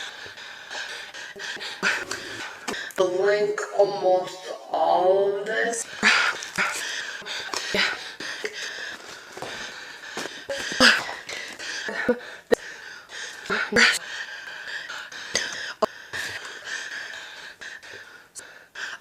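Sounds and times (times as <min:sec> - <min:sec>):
woman breathing heavily: 0:00.0 - 0:03.0, 0:05.8 - 0:19.0.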